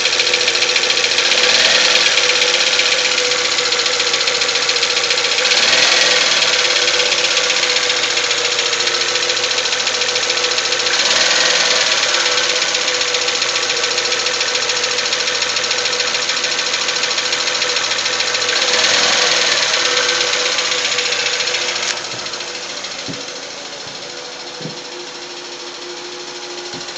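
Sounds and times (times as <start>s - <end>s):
car engine with metallic clatter: 0.0s - 26.9s.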